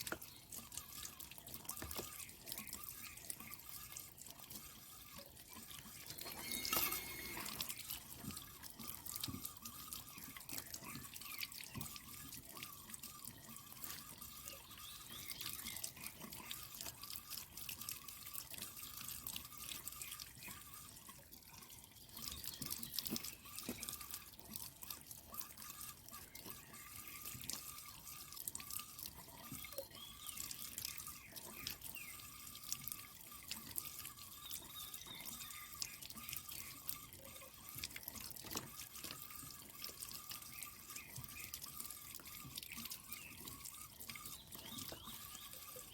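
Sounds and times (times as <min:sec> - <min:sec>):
water dripping and trickling: 0:00.0 - 0:45.9.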